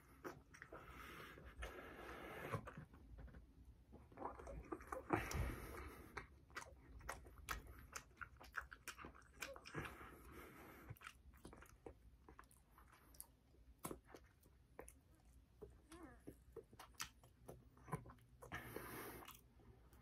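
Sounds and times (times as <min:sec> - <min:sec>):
wet chewing clicks and smacks: 0:04.0 - 0:20.0.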